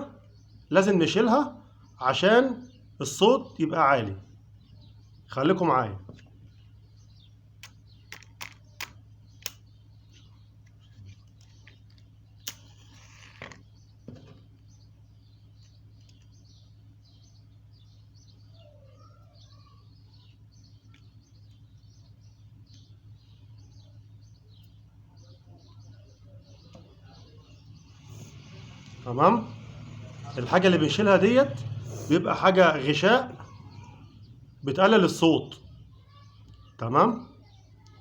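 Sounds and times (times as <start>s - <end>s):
faint bird chirping: 0.0s - 38.0s.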